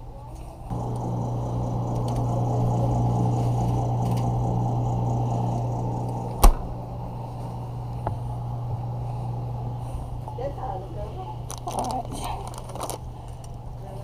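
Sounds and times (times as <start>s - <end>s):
low machine hum: 0.7s - 14.0s.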